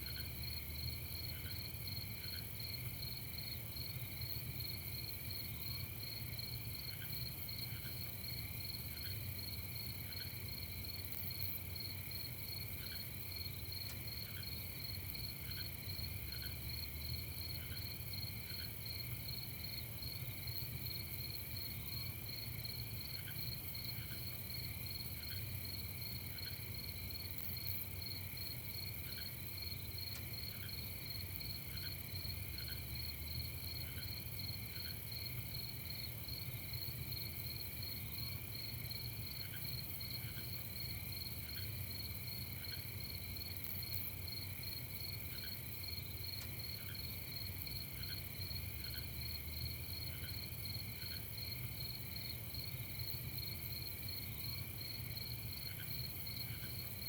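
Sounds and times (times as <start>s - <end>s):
crickets chirping: 0.0s - 57.0s
lower insect call: 0.0s - 57.0s.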